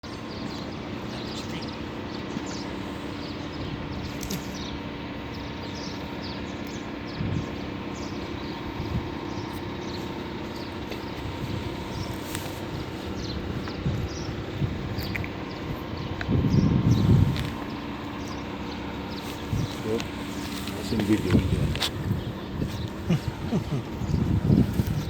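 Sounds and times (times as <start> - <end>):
street traffic hum: 0.0 - 25.0.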